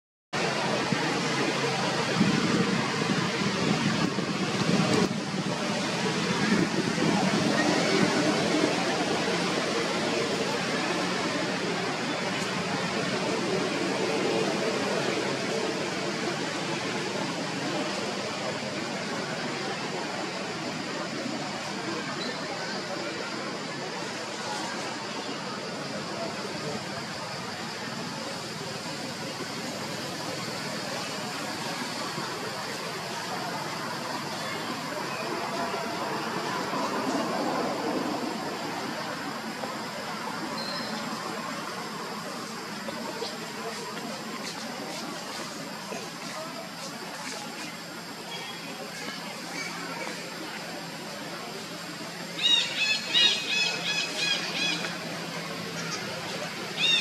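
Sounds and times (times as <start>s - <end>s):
steady hiss: 0.4s - 57.0s.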